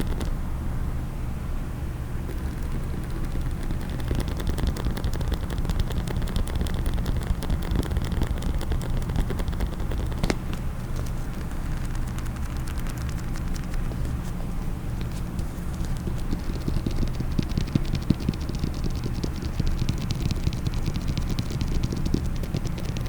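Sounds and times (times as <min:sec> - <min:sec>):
rapid tapping on a case: 0:00.0 - 0:00.3, 0:02.2 - 0:23.0.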